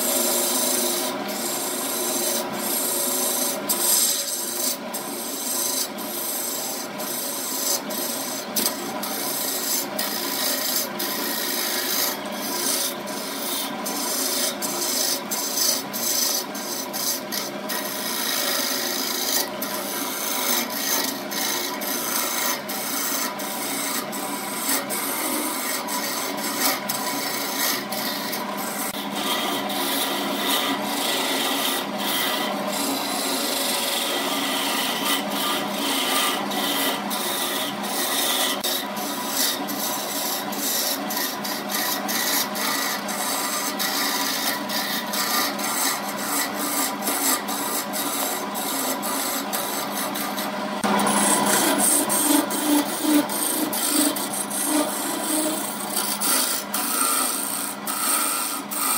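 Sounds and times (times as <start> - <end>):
gouge shaving spinning wood: 0.0 - 58.9
lathe motor hum: 0.0 - 58.9.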